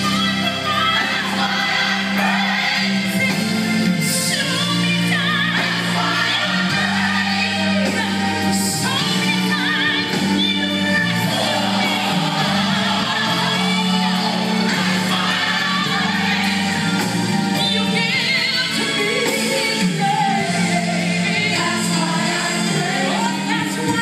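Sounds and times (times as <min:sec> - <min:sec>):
gospel song: 0:00.0 - 0:24.0.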